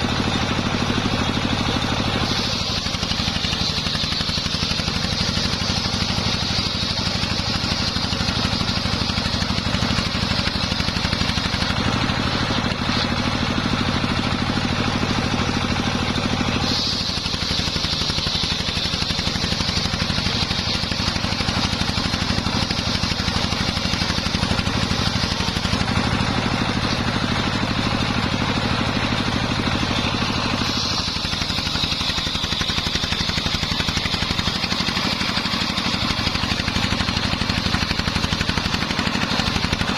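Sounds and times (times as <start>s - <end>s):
saw blade high whine: 0.0s - 39.9s
sawmill engine running: 0.0s - 39.9s.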